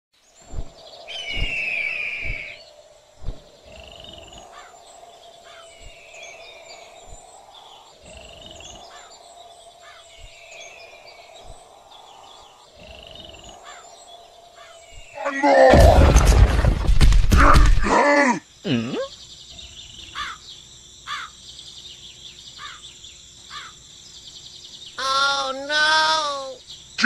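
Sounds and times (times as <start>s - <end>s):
bird calls and chirps: 0.2s - 15.4s, 18.9s - 27.0s.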